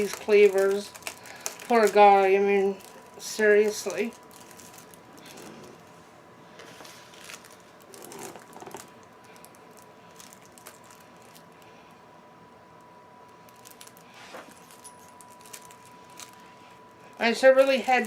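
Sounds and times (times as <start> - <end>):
packaging clicks and rustling: 0.0 - 5.8, 6.6 - 11.6, 13.5 - 18.0.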